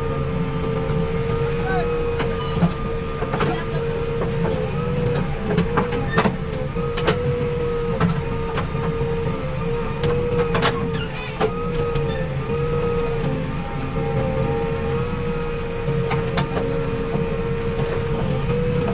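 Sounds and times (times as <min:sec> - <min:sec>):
diesel engine whine and rumble: 0:00.0 - 0:18.9.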